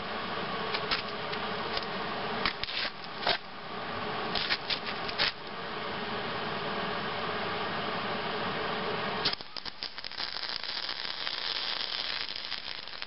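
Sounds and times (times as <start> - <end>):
background hiss: 1.6 - 13.0.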